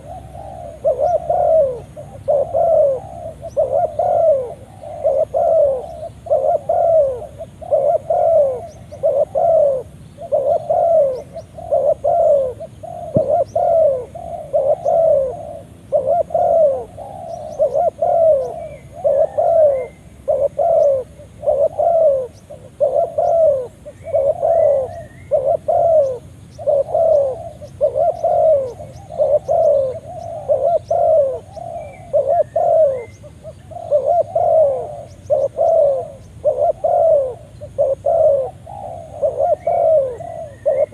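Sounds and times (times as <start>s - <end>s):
dove cooing: 0.0s - 40.9s
faint bird chirps: 0.0s - 40.9s.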